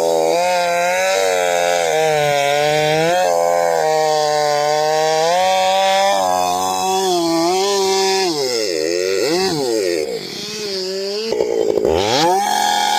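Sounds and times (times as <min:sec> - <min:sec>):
chainsaw cutting logs: 0:00.0 - 0:12.9.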